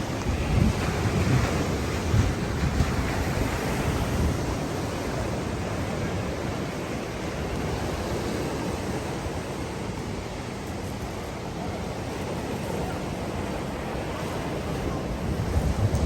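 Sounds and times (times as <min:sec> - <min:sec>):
surf washing onto shore: 0:00.0 - 0:16.0.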